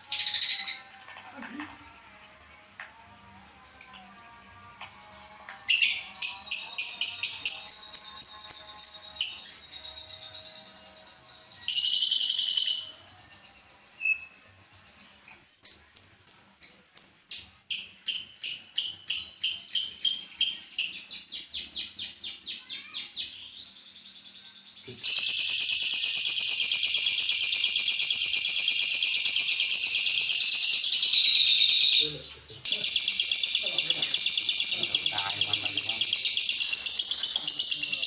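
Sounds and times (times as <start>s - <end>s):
lovebird chattering trill: 0.0s - 21.1s, 24.8s - 38.0s.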